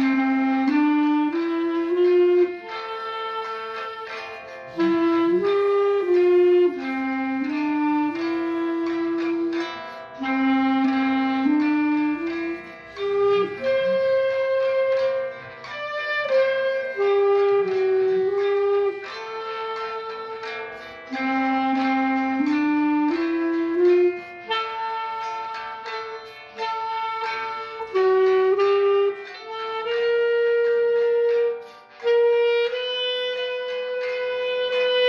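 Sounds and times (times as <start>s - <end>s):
clarinet playing slow hymn melody: 0.0s - 35.0s
classical guitar backing: 0.0s - 35.0s.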